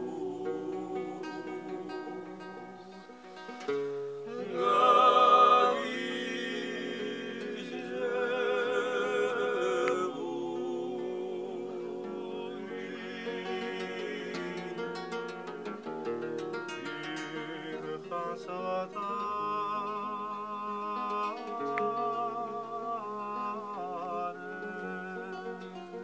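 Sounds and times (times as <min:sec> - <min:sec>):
men singing in harmony: 0:00.0 - 0:03.1, 0:04.3 - 0:26.0
plucked acoustic guitar: 0:00.0 - 0:26.0.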